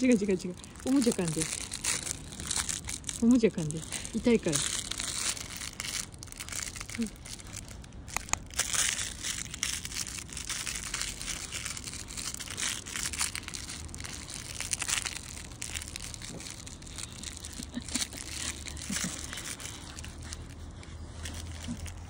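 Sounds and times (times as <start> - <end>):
crinkle toy crackling and rustling: 0.0 - 22.0.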